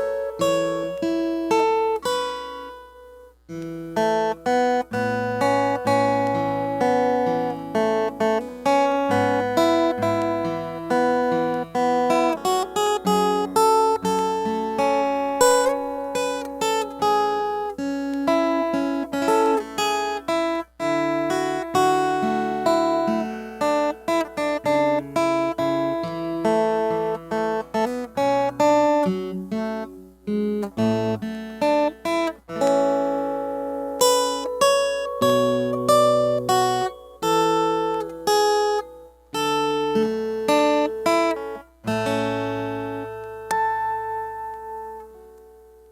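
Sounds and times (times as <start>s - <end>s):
fingerstyle acoustic guitar: 0.0s - 45.9s.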